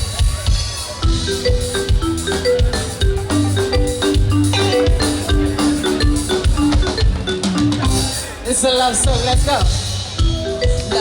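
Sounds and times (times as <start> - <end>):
upbeat instrumental dance music: 0.0 - 11.0.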